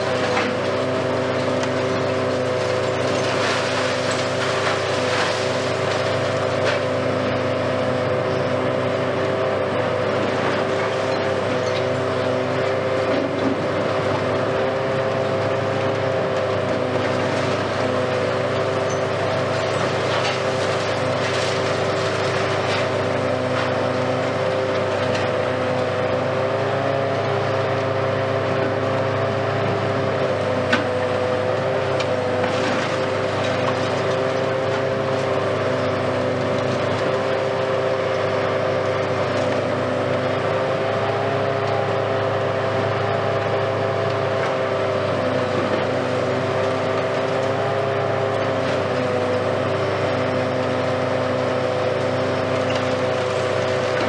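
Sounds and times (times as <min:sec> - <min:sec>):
excavator engine and hydraulics drone: 0:00.0 - 0:54.0.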